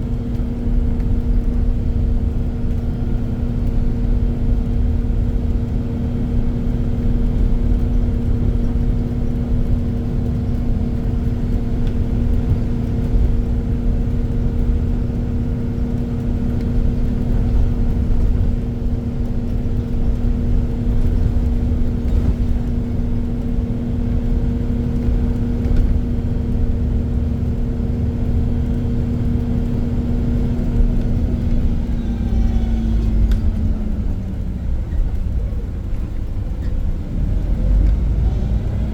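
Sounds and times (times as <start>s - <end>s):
bus engine rumble and hum: 0.0s - 38.9s.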